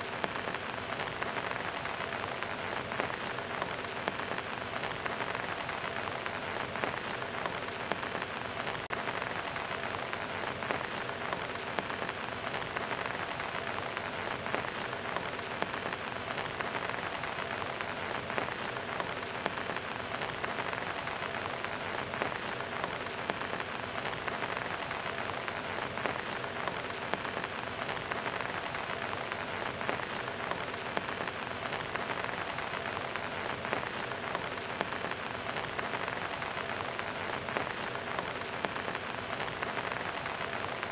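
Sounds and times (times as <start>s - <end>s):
rain on concrete: 0.0s - 40.9s.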